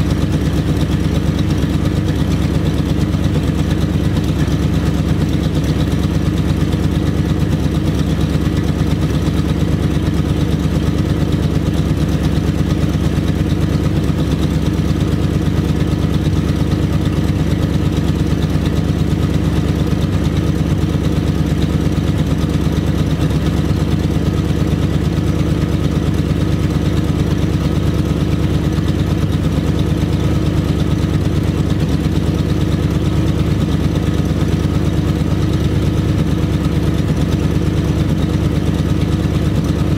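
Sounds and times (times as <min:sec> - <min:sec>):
pickup engine idling: 0:00.0 - 0:39.9.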